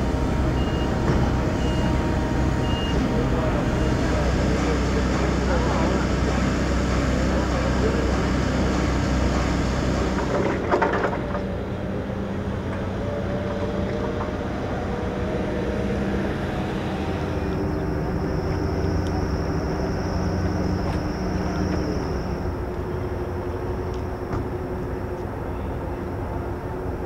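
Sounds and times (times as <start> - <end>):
ship machinery drone: 0.0 - 27.0.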